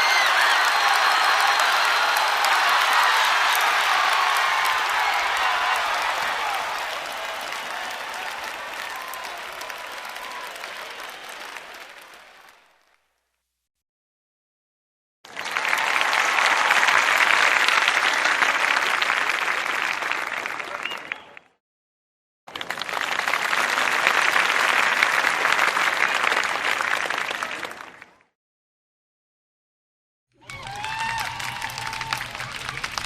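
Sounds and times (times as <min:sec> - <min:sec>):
crowd applauding: 0:00.0 - 0:13.0, 0:15.3 - 0:21.5, 0:22.5 - 0:28.2, 0:30.4 - 0:33.0.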